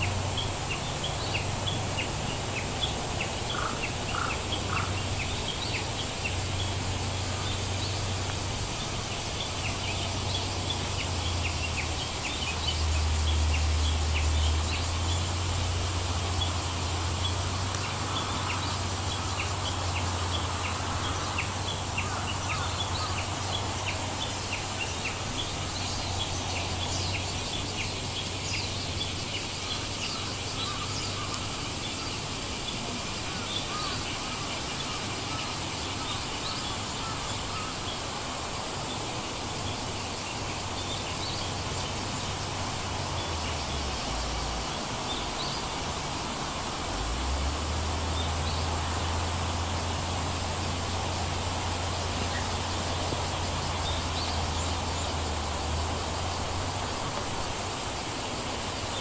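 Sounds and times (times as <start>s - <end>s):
raindrops ticking: 0.0s - 59.0s
steady rain: 0.0s - 59.0s.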